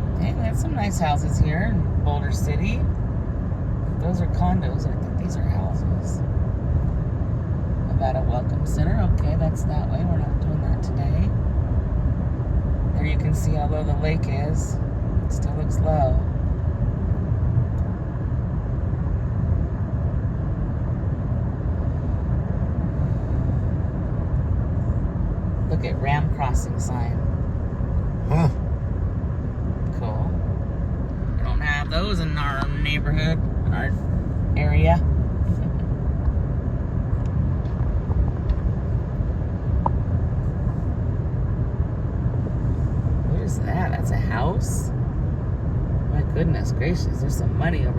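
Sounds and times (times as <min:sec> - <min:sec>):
road and engine rumble in vehicle: 0:00.0 - 0:47.9.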